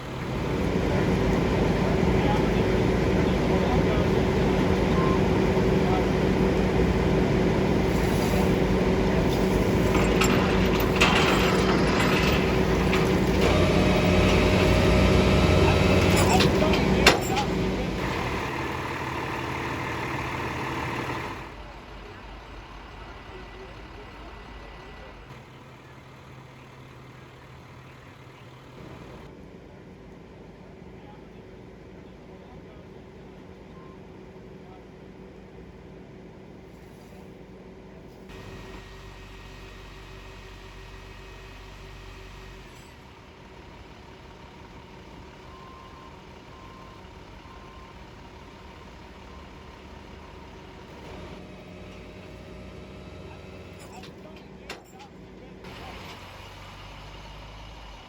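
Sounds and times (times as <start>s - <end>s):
low engine hum: 0.0s - 58.0s
traffic noise: 0.0s - 58.0s
vehicle rumble: 0.0s - 58.0s.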